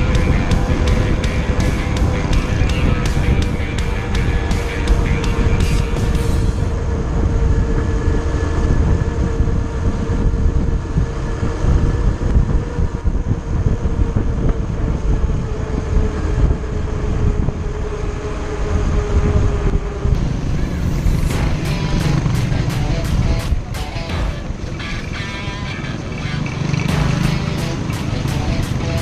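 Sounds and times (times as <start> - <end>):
motorcycle engine cruising: 0.0 - 29.0
wind rumble on microphone: 0.0 - 29.0.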